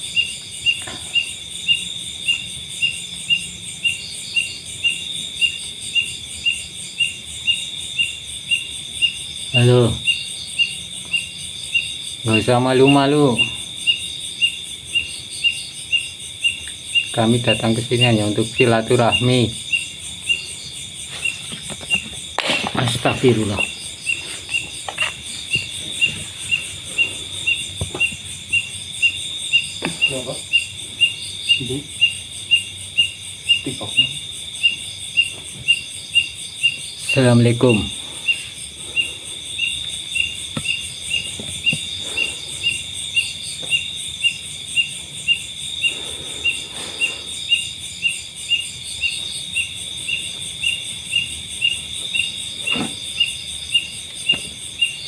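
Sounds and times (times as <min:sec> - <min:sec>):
insect chirping: 0:00.0 - 0:55.0
insects trilling: 0:00.0 - 0:55.0.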